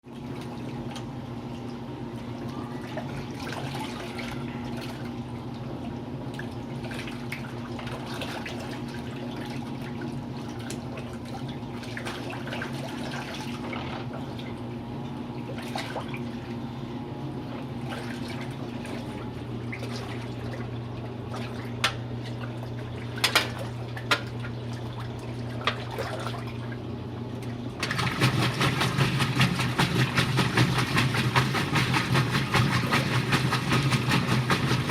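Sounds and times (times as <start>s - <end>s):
washing machine motor hum: 0.0s - 34.9s
water sloshing in washing machine: 0.0s - 34.9s.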